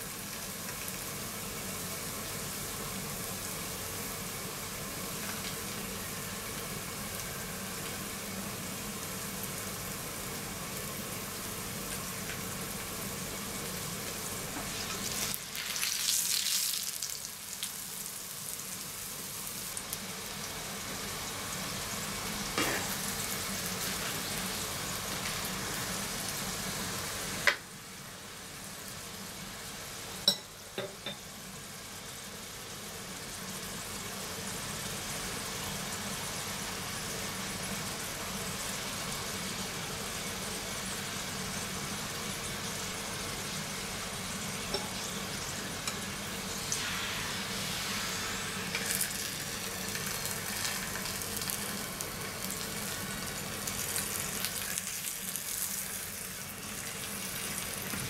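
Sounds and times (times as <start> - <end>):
flatbread sizzling in oil: 0.0 - 58.0.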